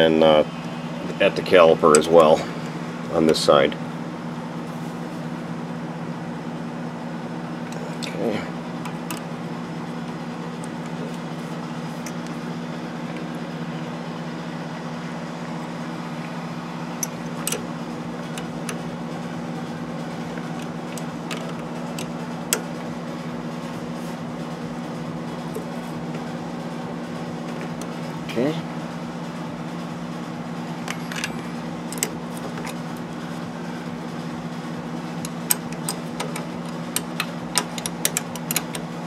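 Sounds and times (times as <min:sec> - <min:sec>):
low workshop hum: 0:00.0 - 0:39.0.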